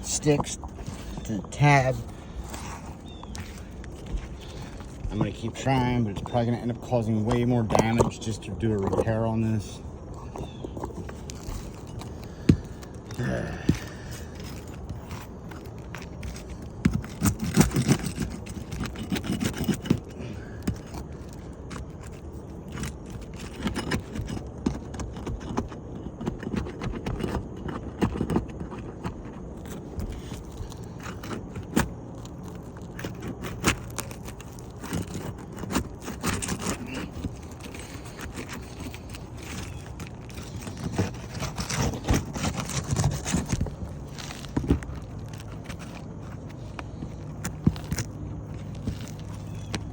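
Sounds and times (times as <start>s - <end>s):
hand tools scraping roof shingles: 0.0s - 49.9s.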